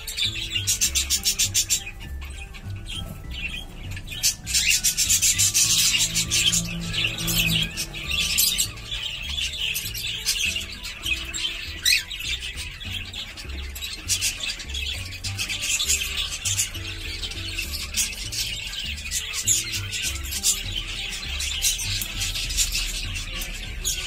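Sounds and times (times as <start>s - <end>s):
cockatiels chirping: 0.0s - 24.0s
soft music: 0.0s - 24.0s.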